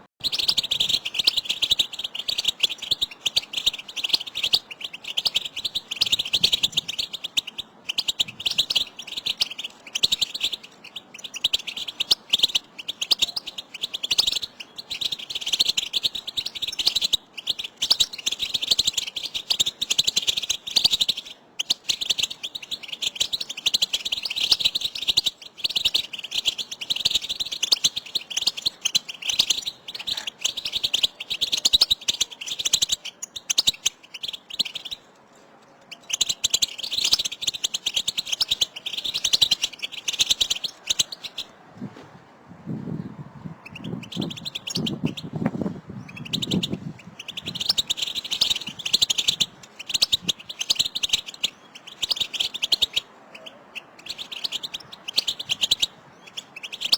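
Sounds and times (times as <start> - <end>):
goldfinches twittering: 0.0 - 41.6, 42.8 - 56.9.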